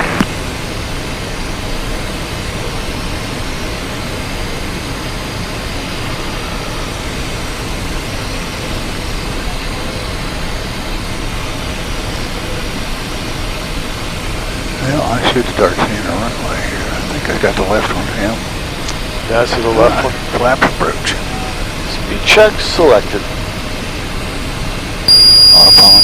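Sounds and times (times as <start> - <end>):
jet cockpit airflow and engine: 0.0 - 26.0.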